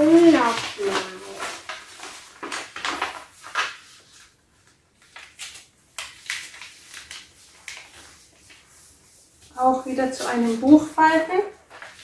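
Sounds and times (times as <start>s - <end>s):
paper being folded and creased: 0.0s - 12.0s.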